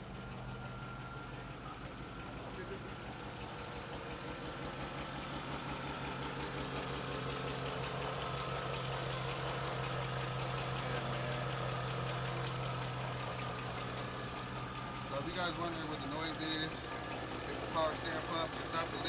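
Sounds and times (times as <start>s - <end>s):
car engine idling: 0.0s - 19.0s
power steering pump whining: 0.0s - 19.0s.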